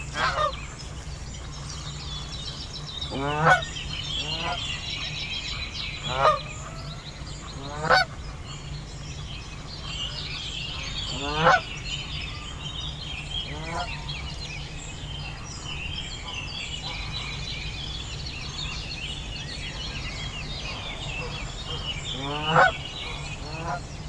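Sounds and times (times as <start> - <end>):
geese honking: 0.1 - 23.9.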